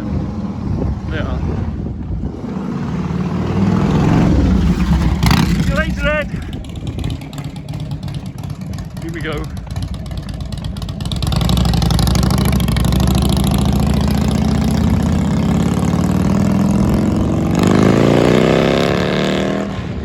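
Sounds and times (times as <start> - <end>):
motorcycle engine running loud: 0.0 - 20.0.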